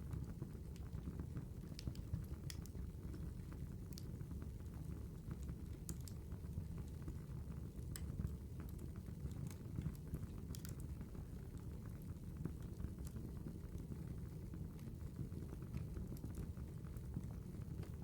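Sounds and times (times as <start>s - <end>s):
low rumble of fire: 0.0s - 18.0s.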